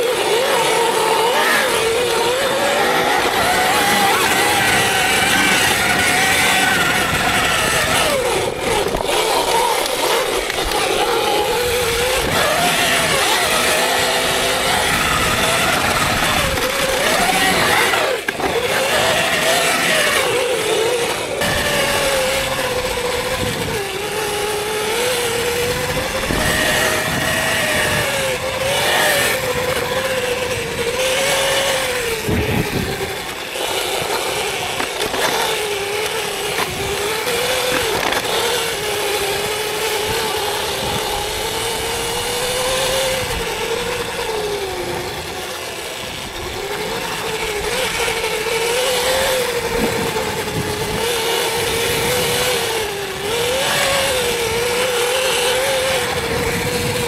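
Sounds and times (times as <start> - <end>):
electric motorbike motor whining: 0.0 - 57.0.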